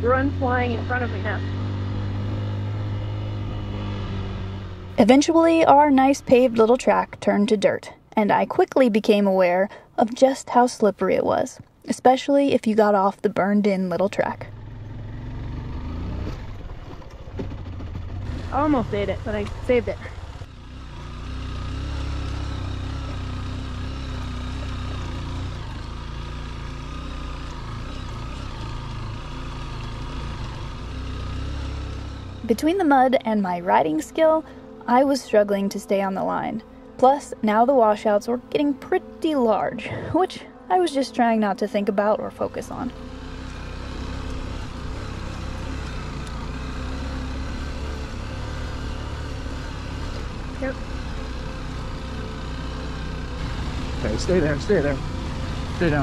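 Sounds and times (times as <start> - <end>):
motorcycle engine climbing: 0.0 - 10.4, 12.8 - 40.6, 41.6 - 56.0.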